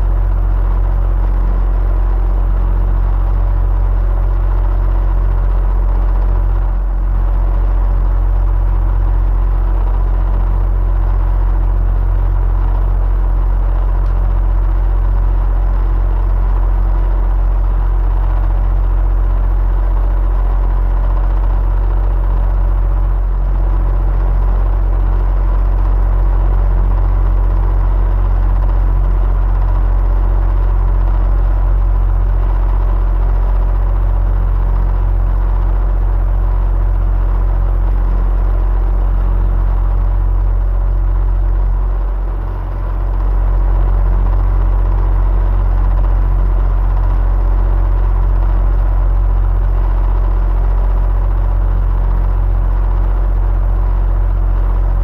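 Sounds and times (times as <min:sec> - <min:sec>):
electric fan humming: 0:00.0 - 0:51.2.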